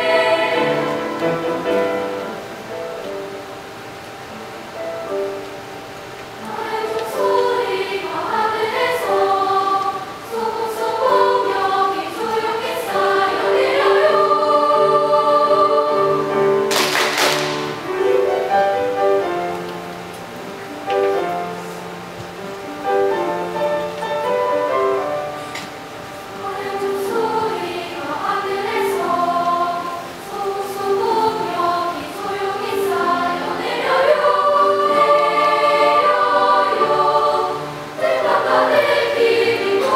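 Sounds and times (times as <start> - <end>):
children's choir singing: 0.0 - 3.7, 6.2 - 39.9.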